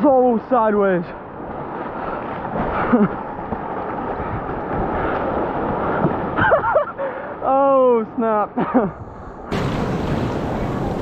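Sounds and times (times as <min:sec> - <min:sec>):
surf: 0:00.0 - 0:11.0.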